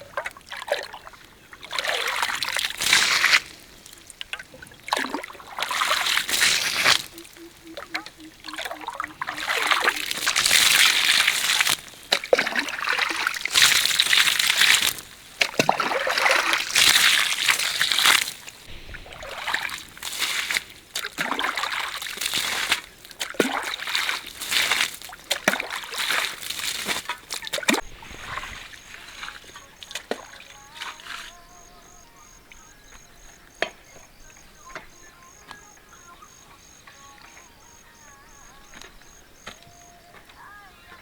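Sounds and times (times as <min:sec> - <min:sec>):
water sloshing and splashing: 0:00.0 - 0:40.5.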